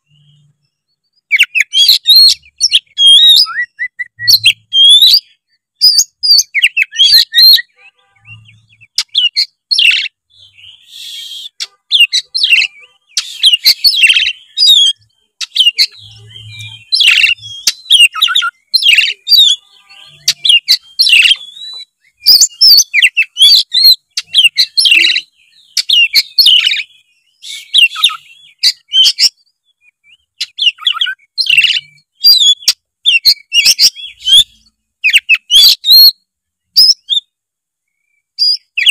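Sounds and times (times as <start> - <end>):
bird song whistles and chirps: 0.0 - 38.9.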